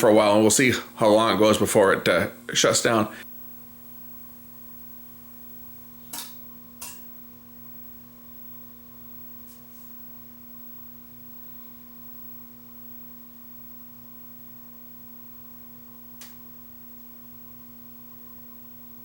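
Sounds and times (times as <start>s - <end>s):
tv and cooling fans humming: 0.0s - 19.0s.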